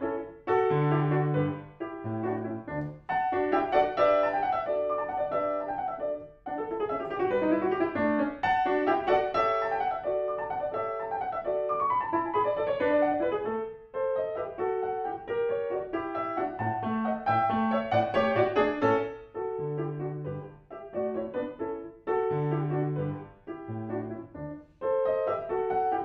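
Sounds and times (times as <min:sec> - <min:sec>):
solo grand piano: 0:00.0 - 0:26.0.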